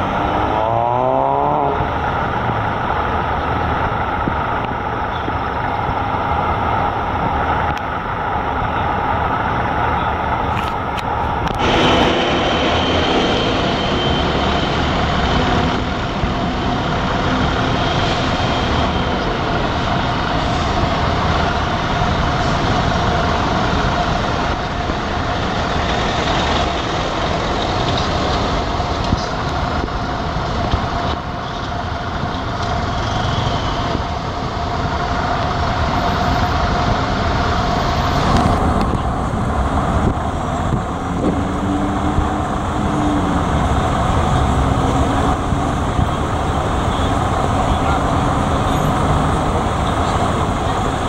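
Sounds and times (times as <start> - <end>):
engine drone: 0.0 - 51.0
lower engine note: 0.0 - 51.0.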